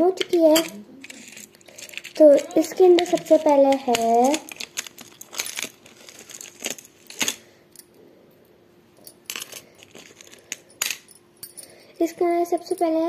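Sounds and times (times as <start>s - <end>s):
bangles clinking: 0.5s - 7.9s, 9.0s - 13.0s.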